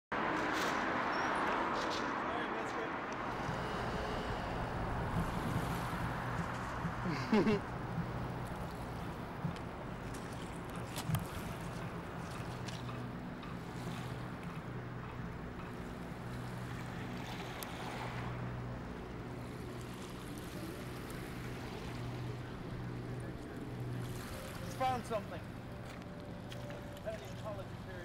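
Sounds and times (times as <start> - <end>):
wind: 0.1 - 28.0
boat engine drone: 0.2 - 28.0
water washing: 3.2 - 28.0.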